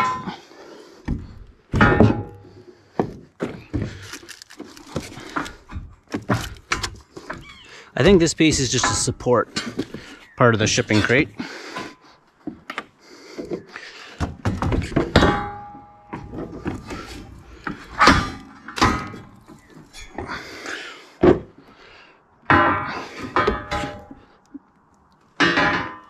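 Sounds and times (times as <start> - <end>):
steel rails clanking on wood: 0.0 - 12.0, 13.9 - 20.6, 22.5 - 24.3, 25.4 - 26.0.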